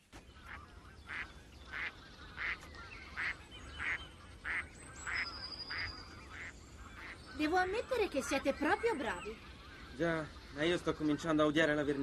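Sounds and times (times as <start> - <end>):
waterfowl calling: 0.3 - 12.0.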